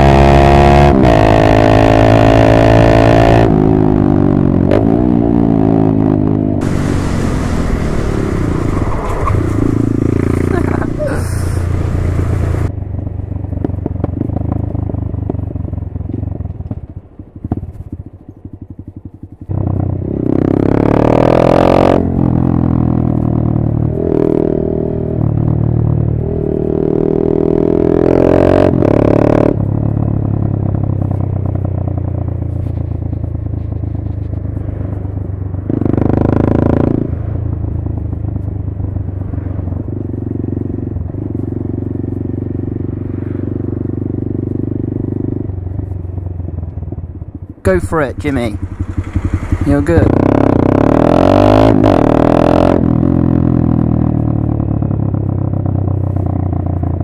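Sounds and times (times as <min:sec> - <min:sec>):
motorcycle engine revving: 0:00.0 - 0:12.8, 0:13.5 - 0:57.0.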